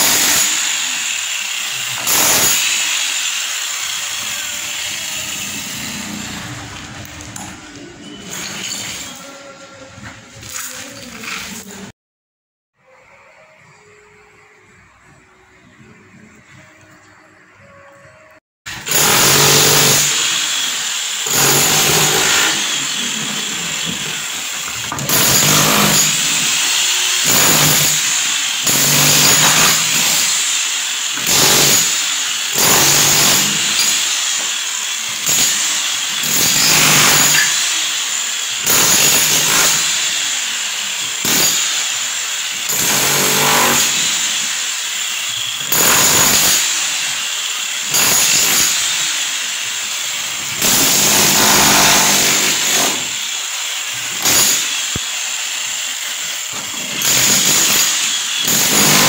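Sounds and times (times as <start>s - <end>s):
power tool bursts: 0.0s - 7.4s, 18.7s - 59.0s.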